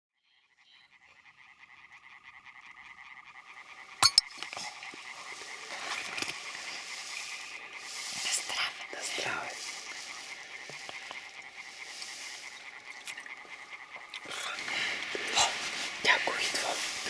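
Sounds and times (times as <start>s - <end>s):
frogs trilling: 0.2s - 17.0s.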